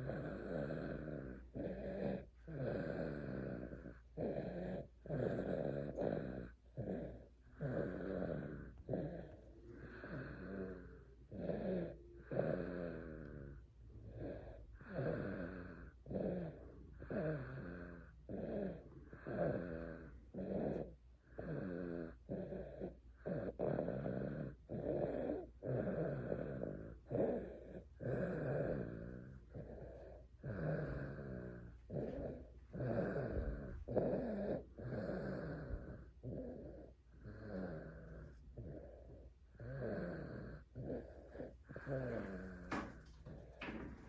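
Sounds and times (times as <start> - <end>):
baby snoring: 0.0 - 44.0.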